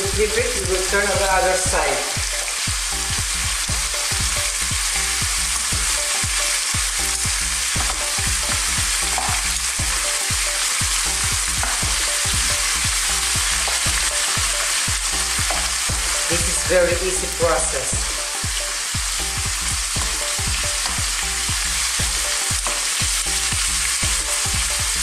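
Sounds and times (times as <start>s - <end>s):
meat sizzling in hot oil: 0.0s - 25.0s.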